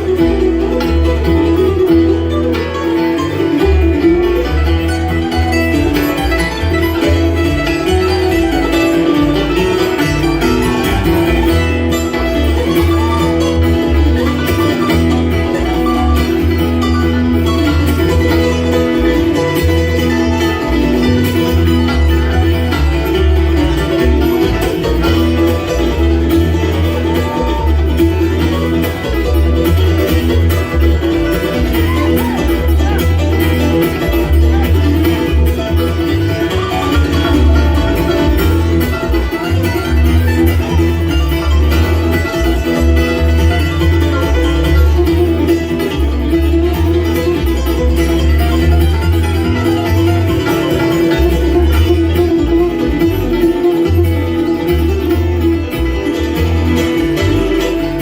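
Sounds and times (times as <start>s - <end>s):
banjo picking: 0.0s - 58.0s
bass line: 0.0s - 58.0s
guitar picking: 0.0s - 58.0s.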